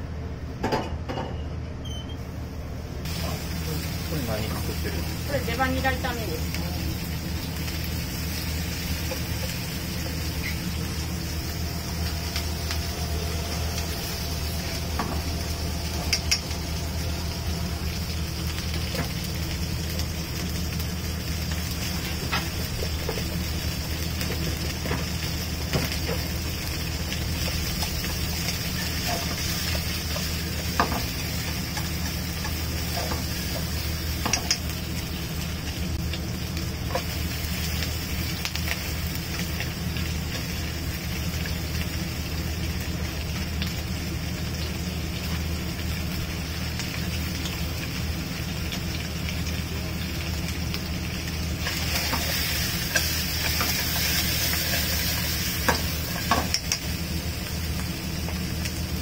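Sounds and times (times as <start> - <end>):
low steady hum: 0.0 - 59.0
food sizzling: 2.2 - 59.0.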